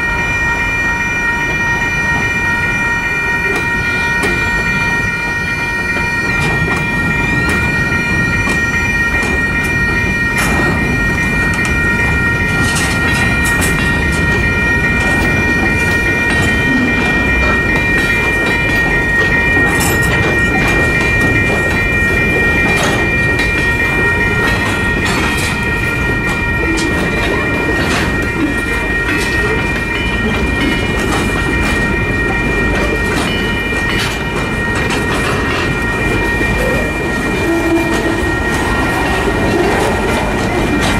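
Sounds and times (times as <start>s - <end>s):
crossing signal bell ringing: 0.0s - 40.9s
freight train rumbling: 0.0s - 40.9s.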